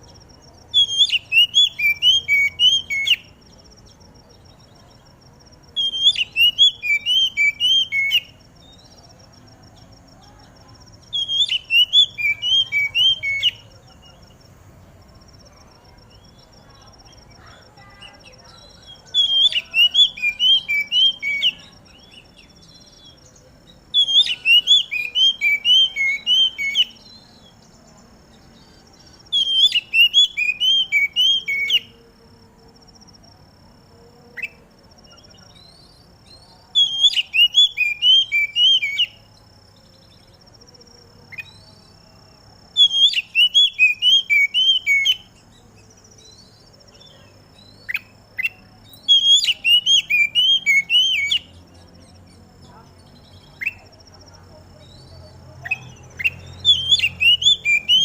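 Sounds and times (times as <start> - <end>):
bird singing whistled notes: 0.0 - 32.0, 34.4 - 58.0.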